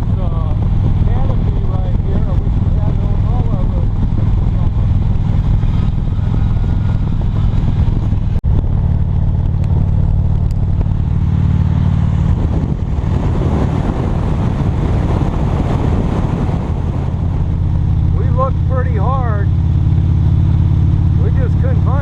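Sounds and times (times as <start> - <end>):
motorcycle engine hum: 0.0 - 22.0
road noise: 0.0 - 22.0
rough rushing noise: 0.0 - 22.0.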